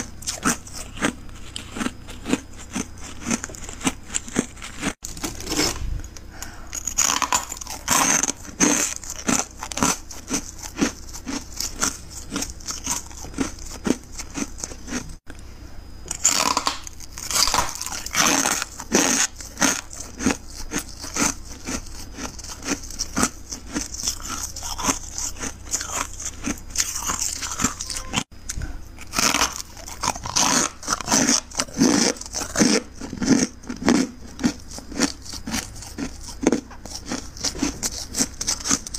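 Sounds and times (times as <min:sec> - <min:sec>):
frost crunching as chewed: 0:00.0 - 0:15.2, 0:16.1 - 0:38.9.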